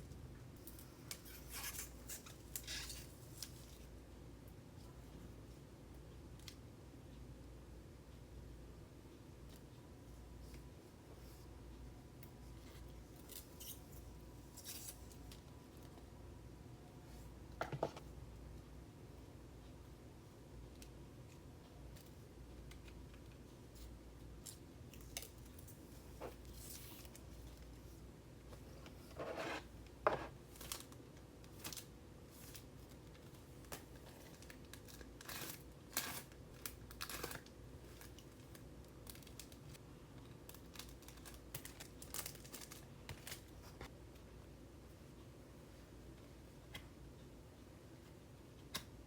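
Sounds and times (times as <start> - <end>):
faint steady background noise: 0.0 - 49.0.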